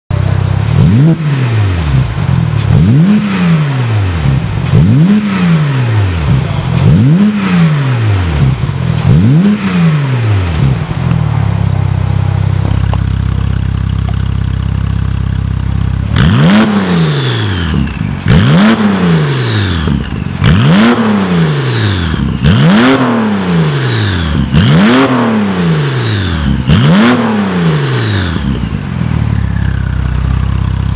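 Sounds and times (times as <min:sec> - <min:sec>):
car engine idling: 0:00.1 - 0:30.9
car engine revving: 0:00.1 - 0:30.9
exhaust cracks: 0:00.1 - 0:30.9.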